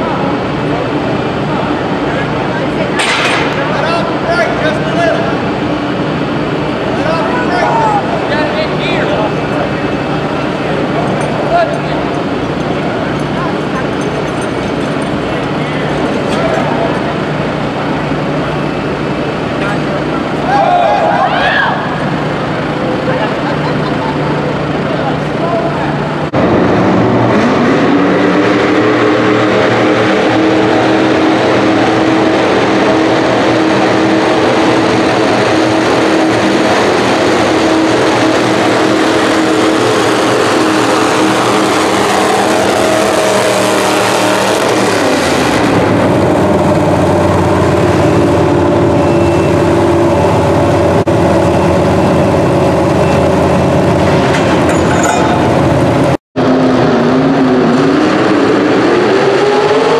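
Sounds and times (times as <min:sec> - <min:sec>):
truck engine running flat out: 0:00.0 - 0:59.9.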